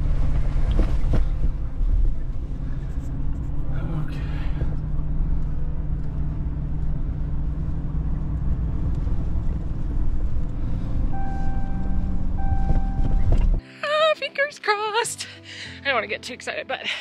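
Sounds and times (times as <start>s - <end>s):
engine and road rumble: 0.0s - 13.7s.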